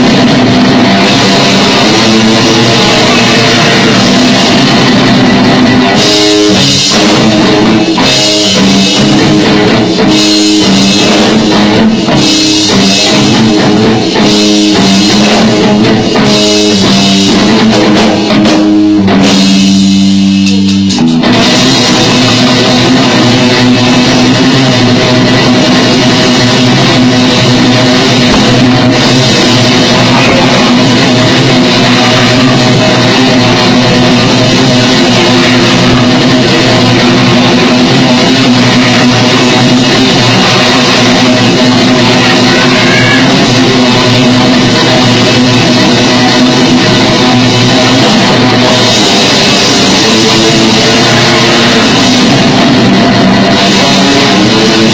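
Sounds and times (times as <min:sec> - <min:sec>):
distorted electric guitar: 0:00.0 - 0:54.9
drum kit: 0:00.0 - 0:54.9.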